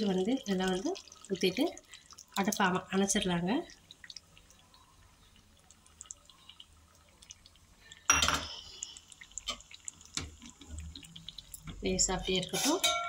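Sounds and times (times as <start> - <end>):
curd dripping and plopping: 0.0 - 12.9.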